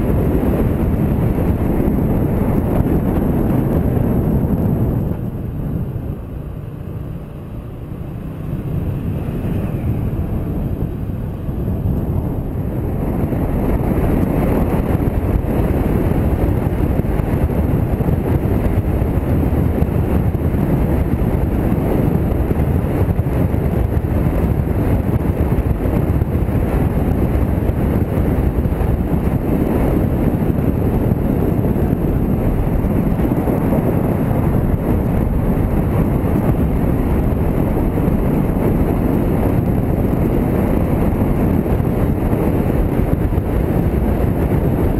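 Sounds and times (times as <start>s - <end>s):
motorcycle road noise: 0.0s - 44.9s
wind buffeting microphone: 0.0s - 44.9s.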